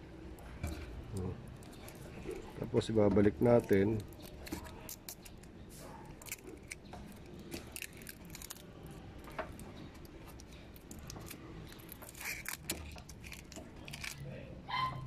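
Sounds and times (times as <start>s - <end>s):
plastic parts clicking and scraping: 0.4s - 14.4s.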